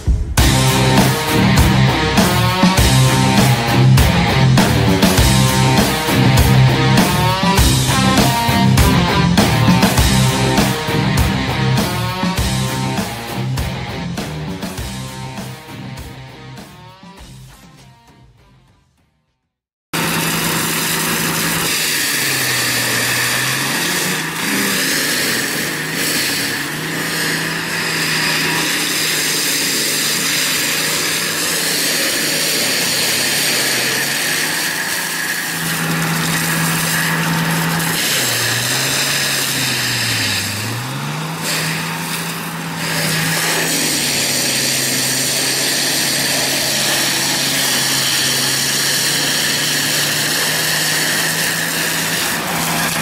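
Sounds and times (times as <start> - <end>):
forestry mulcher diesel engine: 0.0 - 17.5, 20.0 - 53.0.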